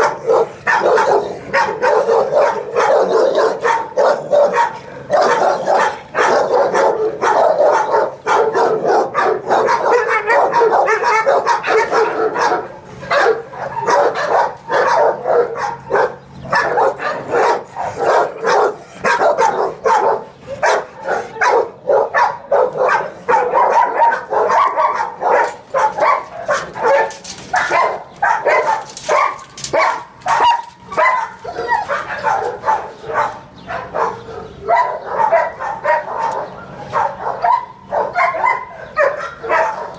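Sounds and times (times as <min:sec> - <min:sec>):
many dogs barking: 0:00.0 - 0:39.9.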